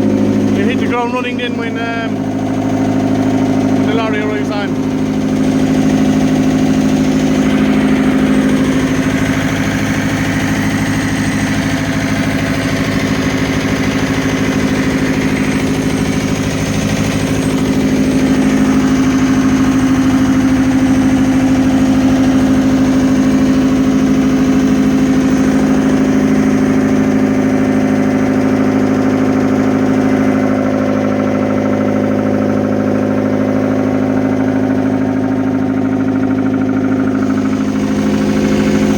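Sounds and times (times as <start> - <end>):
excavator diesel engine idling: 0.0 - 38.9.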